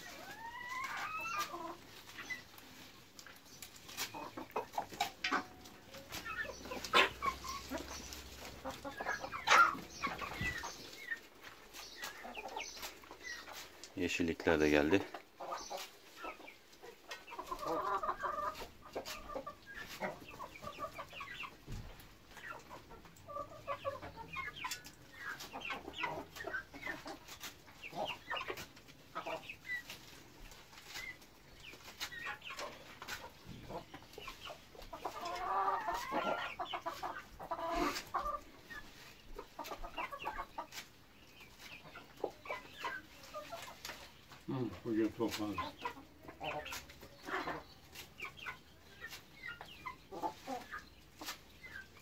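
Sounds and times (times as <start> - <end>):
chickens clucking: 0.0 - 52.0
chickens pecking taps: 0.0 - 52.0.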